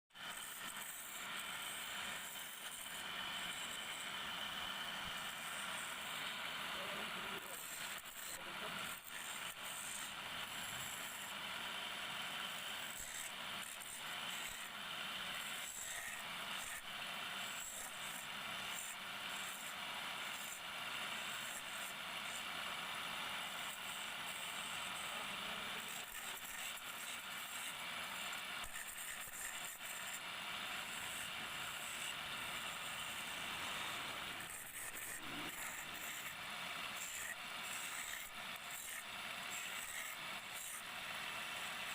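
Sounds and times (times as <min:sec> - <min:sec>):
tool scraping spinning wood: 0:00.2 - 0:41.9
wood lathe turning: 0:00.2 - 0:41.9.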